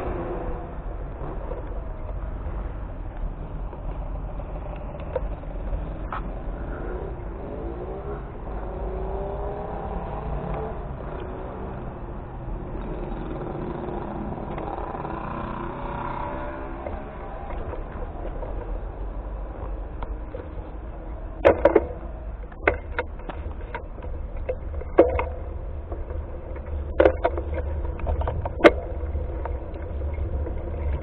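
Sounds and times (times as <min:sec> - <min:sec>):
low rumble: 0:00.0 - 0:31.0
vehicle engine running: 0:00.0 - 0:31.0.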